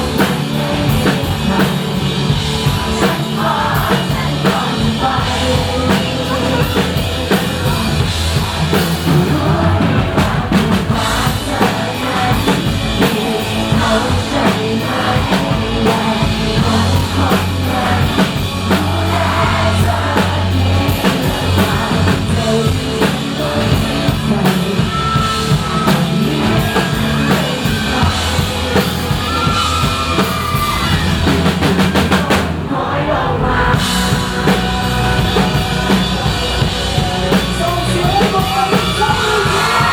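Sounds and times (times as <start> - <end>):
drum kit: 0.0 - 39.9
live rock band playing: 0.0 - 39.9.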